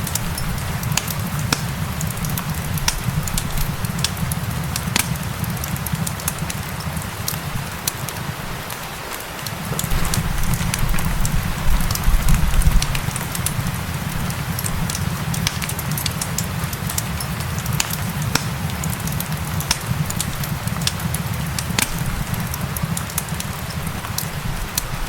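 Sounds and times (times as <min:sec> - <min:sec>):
rain hissing: 0:00.0 - 0:25.0
wood fire crackling and popping: 0:00.0 - 0:25.0.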